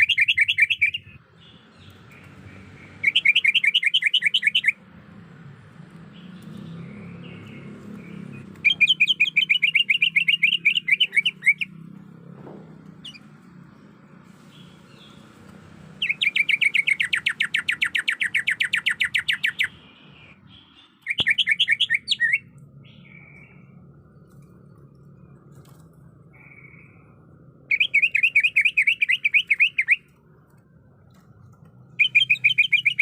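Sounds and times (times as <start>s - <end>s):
bird chirping: 0.0s - 4.9s, 6.0s - 12.1s, 12.9s - 25.5s, 26.3s - 30.2s, 31.1s - 33.0s.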